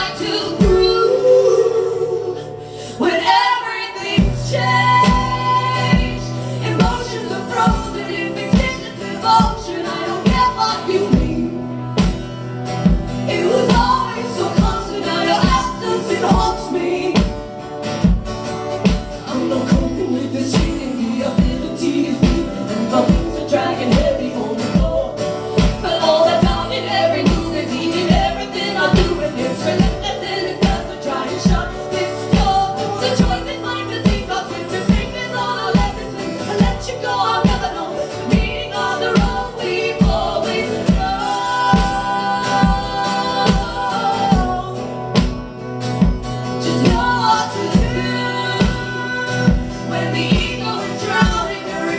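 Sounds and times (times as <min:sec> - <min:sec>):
live band playing: 0:00.0 - 0:51.9
people singing: 0:00.0 - 0:51.9.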